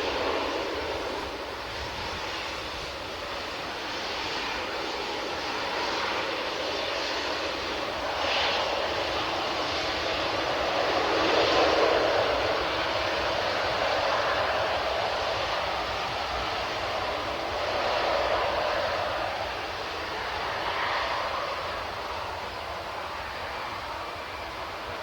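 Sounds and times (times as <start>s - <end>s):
airliner engines drone: 0.0s - 25.0s.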